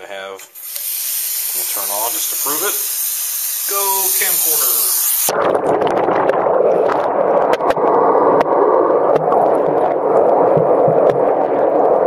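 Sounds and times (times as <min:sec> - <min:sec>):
muffled underwater rushing water: 0:01.4 - 0:12.0.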